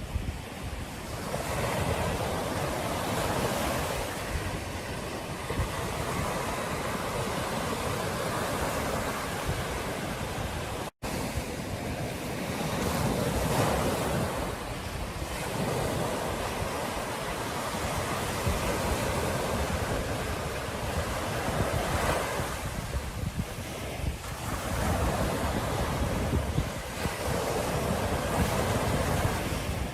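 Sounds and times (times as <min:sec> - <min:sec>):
ocean surf washing on beach: 0:00.0 - 0:29.9
wind buffeting microphone: 0:00.0 - 0:29.9.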